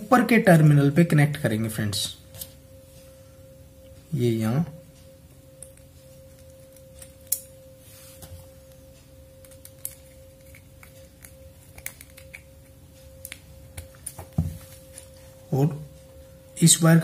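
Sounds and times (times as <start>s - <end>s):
steady faint tone: 0.0s - 17.0s.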